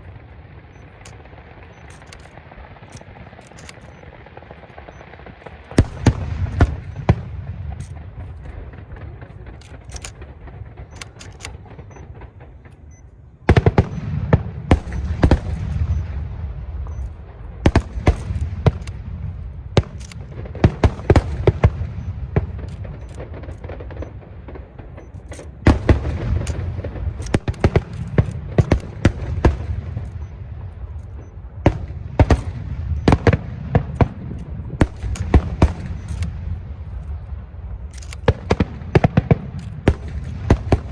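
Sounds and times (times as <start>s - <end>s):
fireworks cracking: 0.0s - 40.9s
rumbling fireworks booms: 0.0s - 40.9s.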